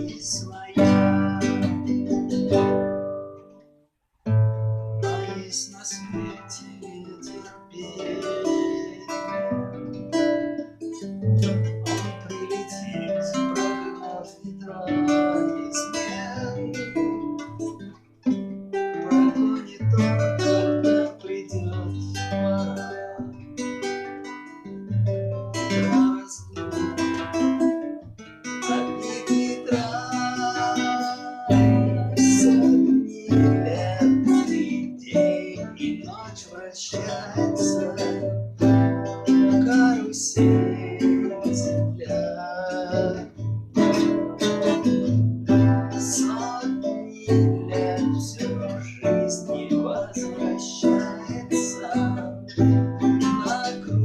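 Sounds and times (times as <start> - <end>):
guitar melody: 0.0 - 54.0.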